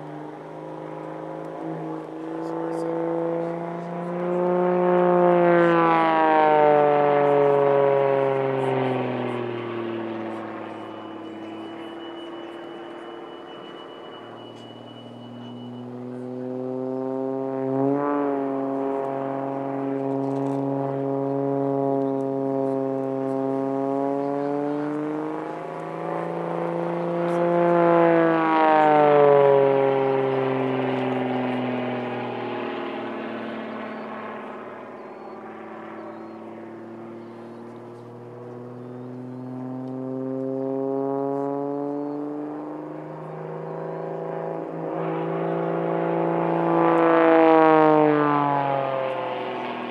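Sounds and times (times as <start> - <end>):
propeller plane engine droning: 0.0 - 49.9.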